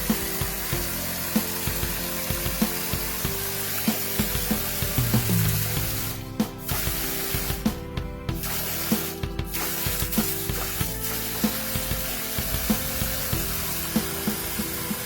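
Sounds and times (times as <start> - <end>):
background music with beat: 0.0 - 15.0
steady hiss: 0.0 - 15.0.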